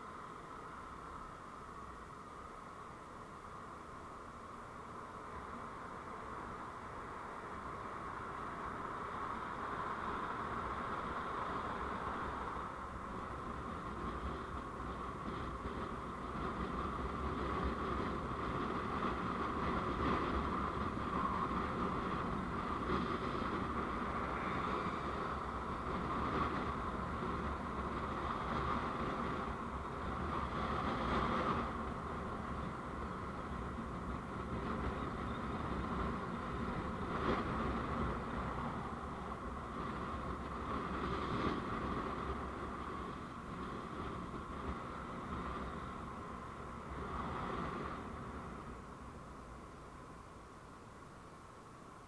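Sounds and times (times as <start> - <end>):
vehicle road and engine noise: 0.0 - 52.0.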